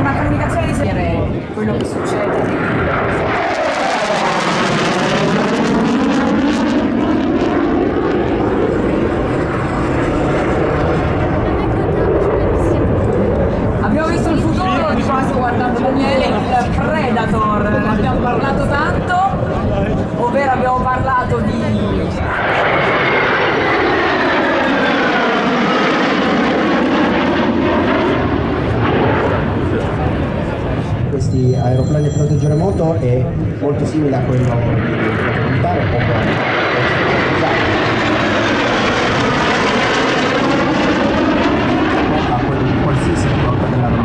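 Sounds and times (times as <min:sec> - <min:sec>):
afterburner roar: 0:00.0 - 0:16.5, 0:21.8 - 0:31.2, 0:34.6 - 0:44.0
jet fly-by roar: 0:00.0 - 0:44.0.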